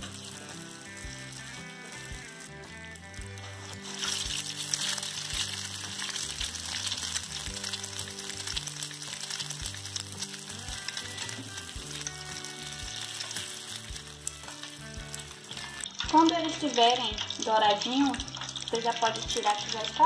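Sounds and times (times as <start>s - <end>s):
bread sizzling in hot oil: 0.0s - 20.0s.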